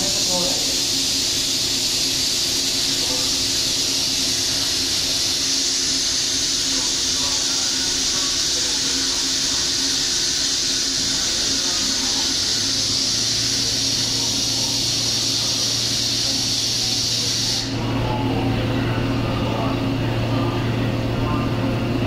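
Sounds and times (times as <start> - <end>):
electric train high hiss: 0.0 - 21.6
low electrical hum: 0.0 - 22.0.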